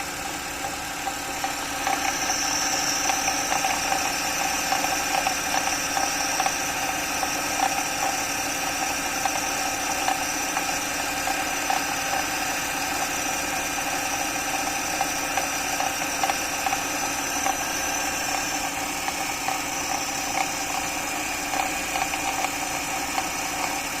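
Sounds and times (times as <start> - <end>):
car engine idling: 0.0 - 24.0
power steering pump whine: 0.0 - 24.0.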